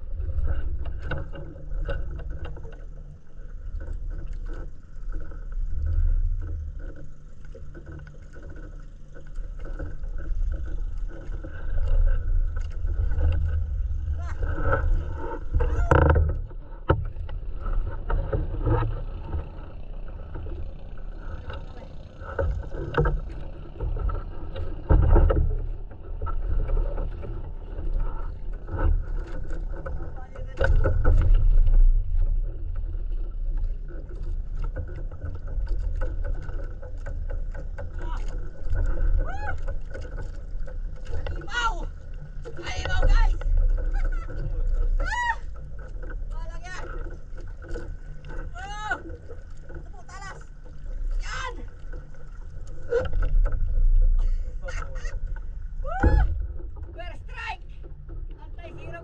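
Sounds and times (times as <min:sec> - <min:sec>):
low rumble: 0:00.0 - 0:59.0
water lapping against hull: 0:00.0 - 0:59.0
small knocks on hull: 0:03.6 - 0:59.0.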